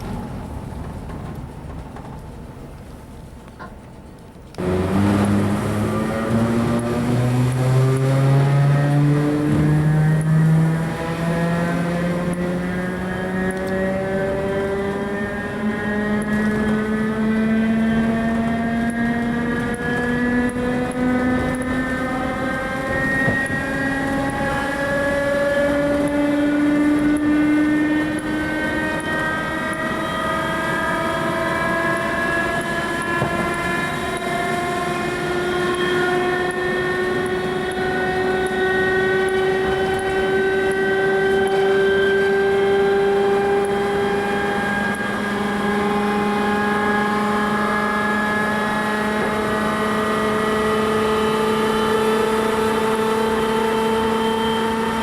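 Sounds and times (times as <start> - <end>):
train running on track: 0.0 - 55.0
train traction motor whine: 0.0 - 55.0.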